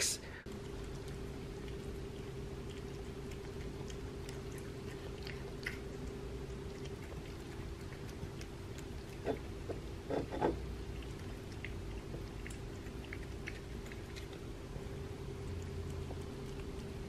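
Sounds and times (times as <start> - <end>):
steady low hum: 0.0 - 17.0
cat chewing and licking: 0.5 - 17.0.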